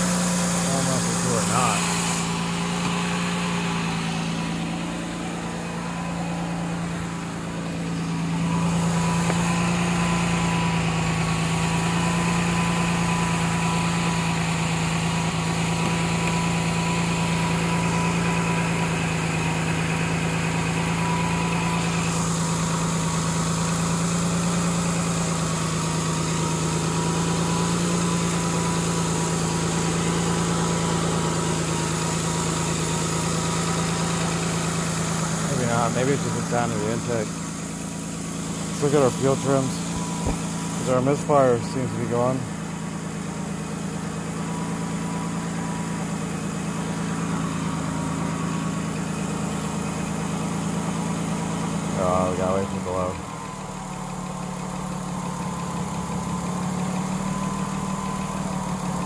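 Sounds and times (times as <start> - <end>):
car engine idling: 0.0 - 59.0
faint intake whistle: 0.0 - 59.0.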